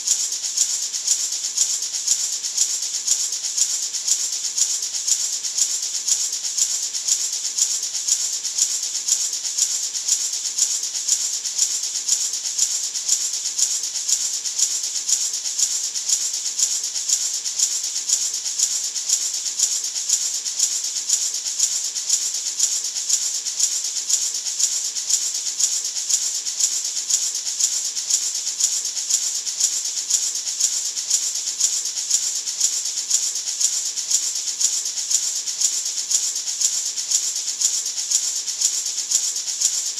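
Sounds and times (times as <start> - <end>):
maraca shaken: 0.0 - 39.9.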